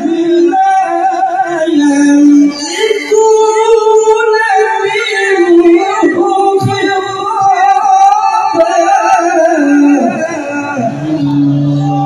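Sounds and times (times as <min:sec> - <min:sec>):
man reciting into a microphone: 0:00.0 - 0:12.0.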